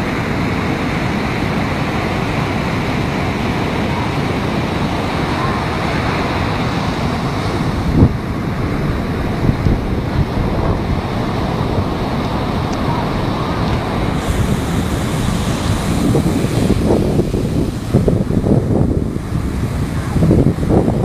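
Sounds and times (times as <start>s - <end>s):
sea surf breaking: 0.0s - 21.0s
wind buffeting microphone: 0.0s - 21.0s.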